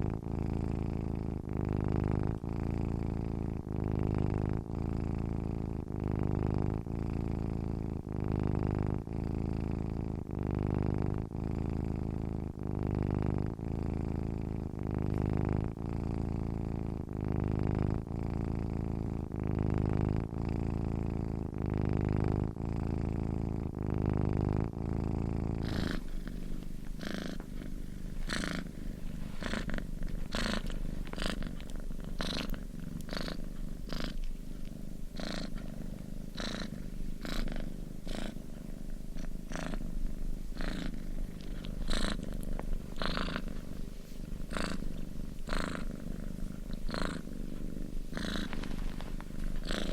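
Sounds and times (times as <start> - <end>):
cat purring: 0.0 - 49.9.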